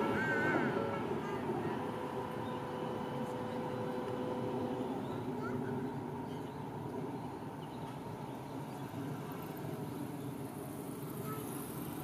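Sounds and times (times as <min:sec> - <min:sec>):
city background noise: 0:00.0 - 0:12.0
distant road traffic hum: 0:00.0 - 0:12.0.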